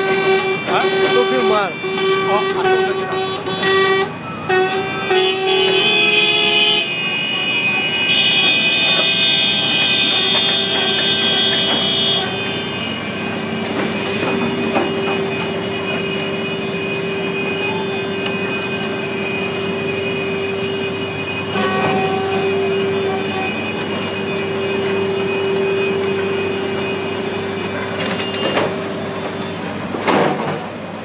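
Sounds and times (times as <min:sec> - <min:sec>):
vehicle horns held in chord: 0:00.0 - 0:13.4, 0:14.2 - 0:28.0
low horn tone: 0:00.0 - 0:29.6.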